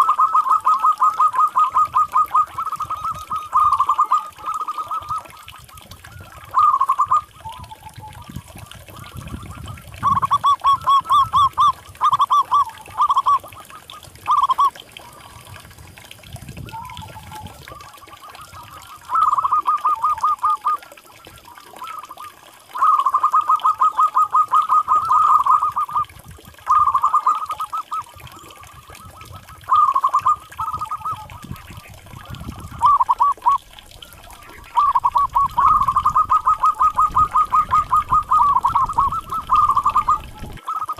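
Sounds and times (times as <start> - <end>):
dove staccato cooing: 0.0 - 15.5, 16.7 - 40.9.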